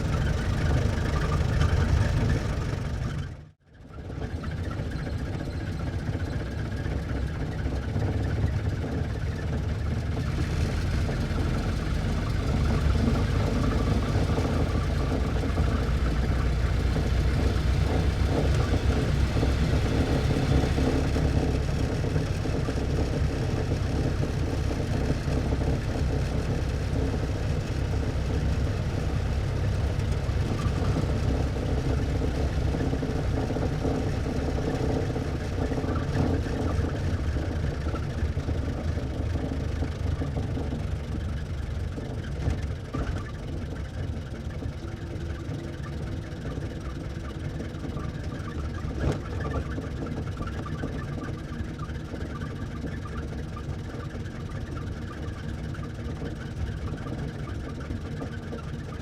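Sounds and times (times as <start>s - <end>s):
car engine running: 0.0s - 3.5s, 6.0s - 59.0s
engine knocks: 7.7s - 59.0s.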